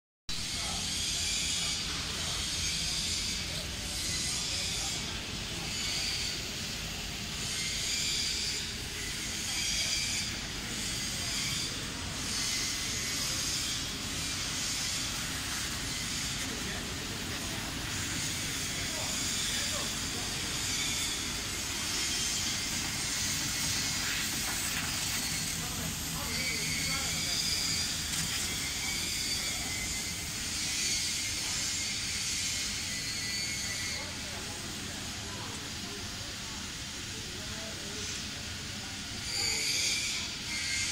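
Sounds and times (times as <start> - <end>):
laser cutter hissing: 0.4 - 40.9.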